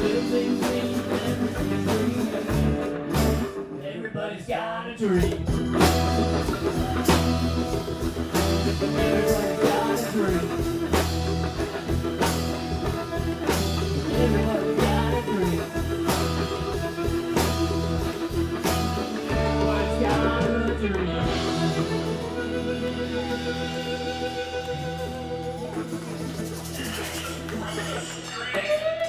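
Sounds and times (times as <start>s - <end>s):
guitar bending notes: 0.0s - 4.0s, 5.3s - 29.0s
rock band music: 0.0s - 29.0s.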